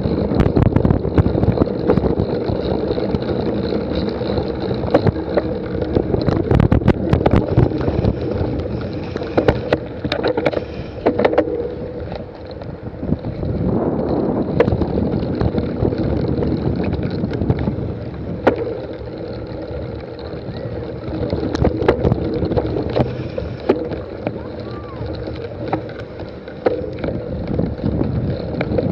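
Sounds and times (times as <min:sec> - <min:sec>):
sharp clicks and rattles: 0:00.0 - 0:28.9
steady rumbling hum: 0:00.0 - 0:28.9
wind buffeting microphone: 0:00.0 - 0:28.9.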